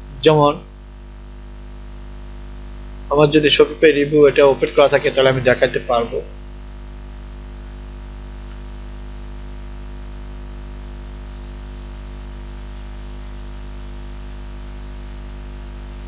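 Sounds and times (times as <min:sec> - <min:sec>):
constant hiss: 0:00.0 - 0:16.0
electrical hum: 0:00.0 - 0:16.0.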